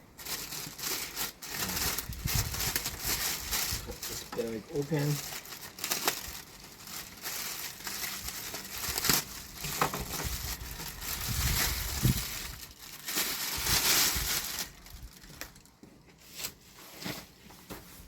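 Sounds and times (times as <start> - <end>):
plastic bag crinkling: 0.0 - 15.8.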